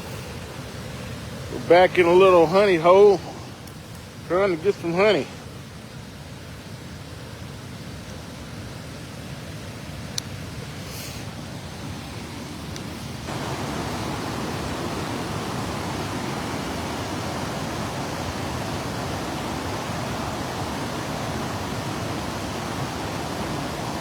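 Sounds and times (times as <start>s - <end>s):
river water and waterfall rushing: 0.0s - 24.0s.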